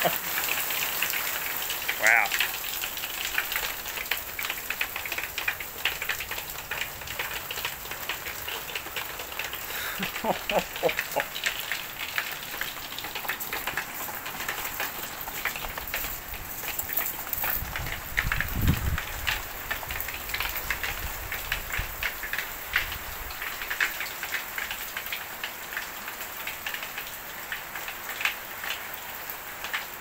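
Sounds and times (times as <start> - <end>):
rain pattering: 0.0 - 30.0
raindrops ticking on hard surfaces: 0.0 - 30.0.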